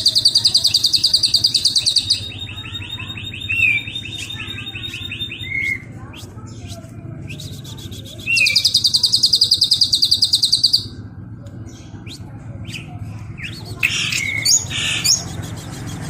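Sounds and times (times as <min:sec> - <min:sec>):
songbird trilling: 0:00.0 - 0:06.0, 0:07.3 - 0:11.0, 0:11.7 - 0:15.9.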